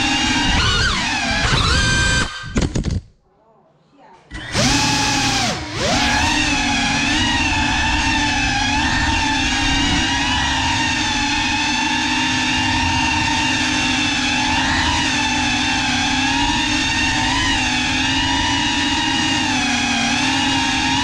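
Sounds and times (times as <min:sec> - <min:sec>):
drone propellers whining: 0:00.0 - 0:02.7, 0:04.3 - 0:21.0.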